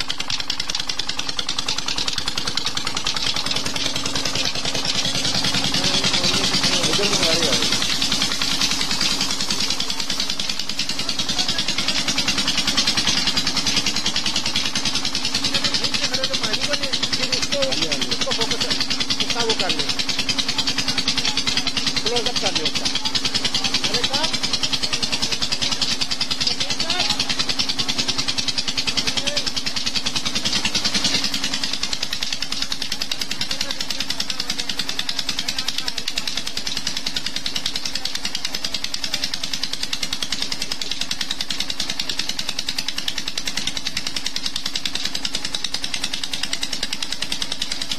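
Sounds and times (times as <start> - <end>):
diesel engine clattering: 0.0 - 47.9.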